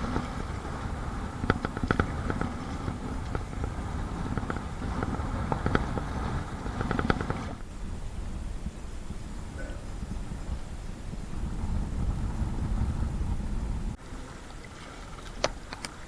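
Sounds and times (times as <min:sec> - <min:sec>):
strong wind buffeting microphone: 0:00.0 - 0:14.0
waves splashing against kayak: 0:00.0 - 0:16.0.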